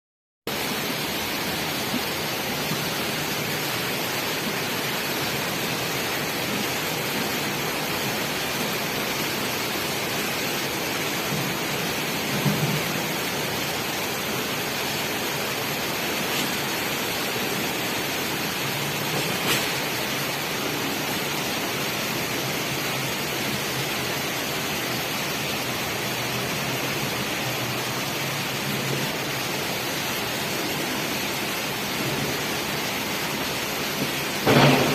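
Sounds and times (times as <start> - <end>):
heavy rain hissing: 0.5 - 34.9.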